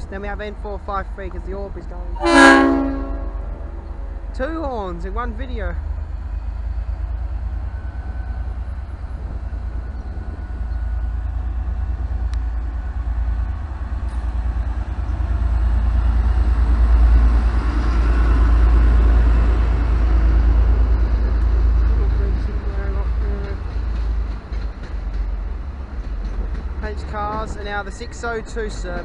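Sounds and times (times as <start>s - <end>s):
locomotive engine rumbling: 0.0s - 29.0s.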